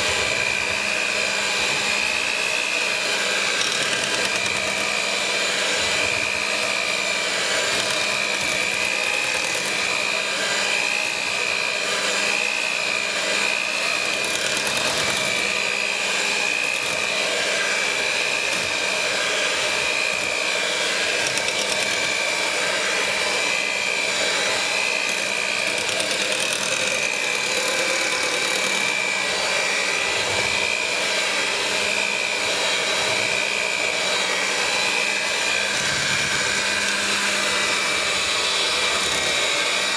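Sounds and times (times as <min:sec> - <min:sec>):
electric hand mixer whining: 0:00.0 - 0:39.9.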